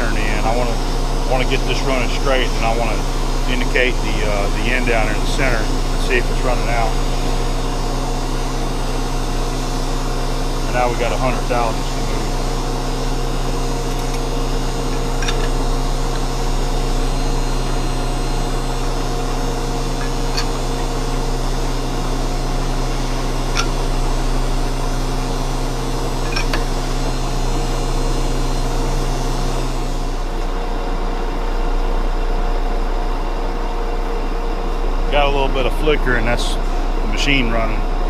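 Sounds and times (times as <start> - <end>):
metal lathe humming: 0.0 - 38.0.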